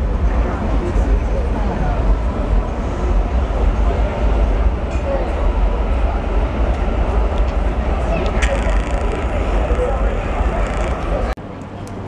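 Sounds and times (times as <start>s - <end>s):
tram rumbling past: 0.0s - 12.0s
voices of passers-by: 0.0s - 12.0s.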